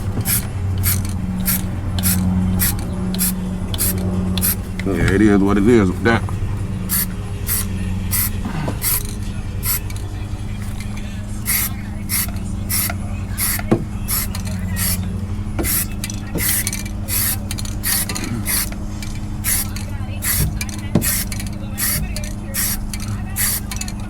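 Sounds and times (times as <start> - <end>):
aerosol spray bursts: 0.0 - 4.8, 6.9 - 24.0
steady low hum: 0.0 - 24.0.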